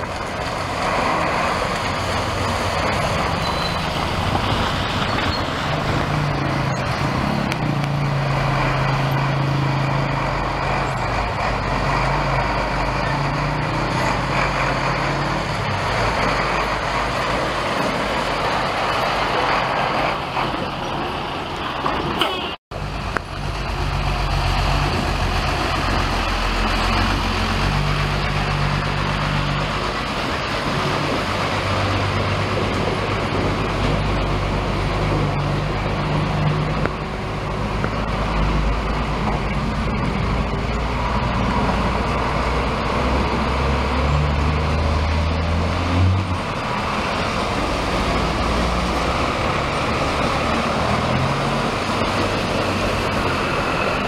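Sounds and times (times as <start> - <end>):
tyres churning through mud: 0.0 - 54.0
vehicle engines running: 0.0 - 54.0.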